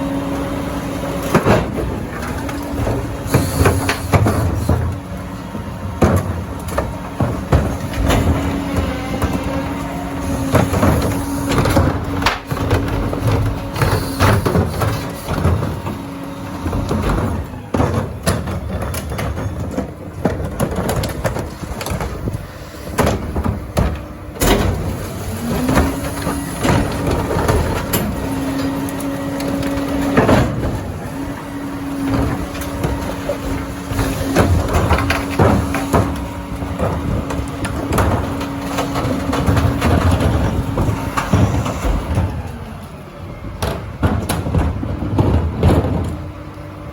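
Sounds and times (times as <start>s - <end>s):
clanks and bangs of carts tipping: 0.0s - 46.7s
garbage truck hydraulic whine: 0.0s - 46.9s.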